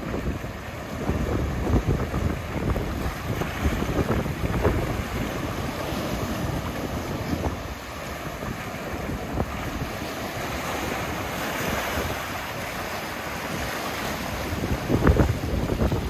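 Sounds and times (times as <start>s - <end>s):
surf breaking on rocks: 0.0s - 16.0s
water washing between rocks: 0.0s - 16.0s
wind buffeting microphone: 0.0s - 16.0s.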